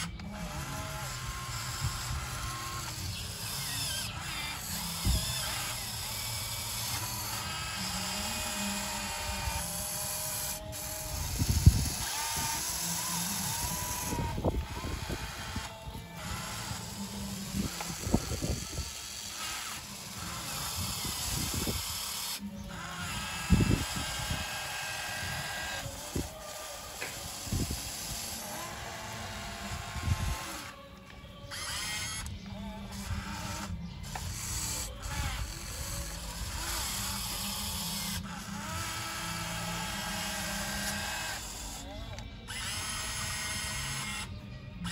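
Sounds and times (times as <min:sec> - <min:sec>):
electric hydraulic pump whining: 0:00.0 - 0:44.9.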